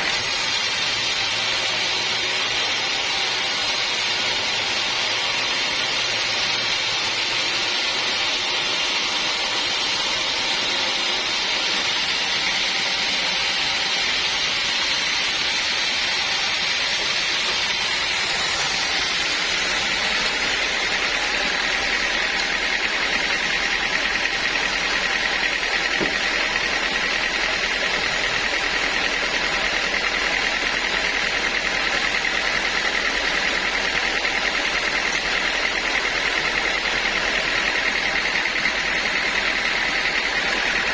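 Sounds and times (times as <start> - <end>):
band sawmill sawing wood: 0.0 - 40.9.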